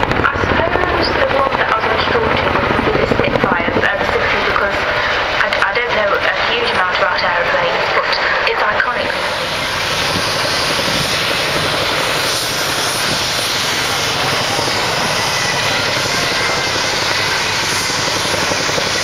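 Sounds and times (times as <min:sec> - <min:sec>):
helicopter rotor and turbine noise: 0:00.0 - 0:19.0.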